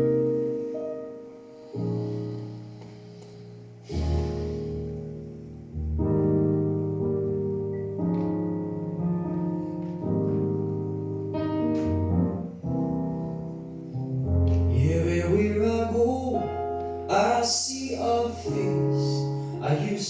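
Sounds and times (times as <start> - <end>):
piano chords ringing: 0.0 - 20.0.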